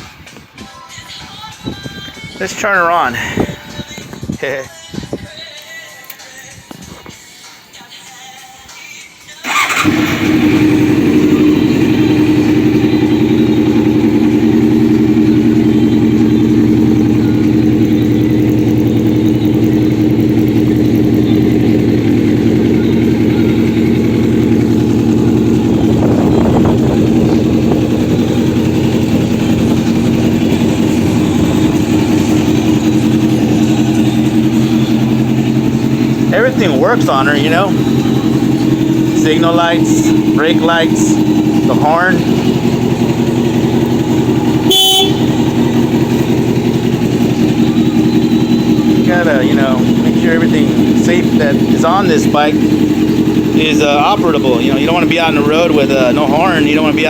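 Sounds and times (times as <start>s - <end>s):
motorcycle engine idling: 2.5s - 4.0s, 9.4s - 57.0s.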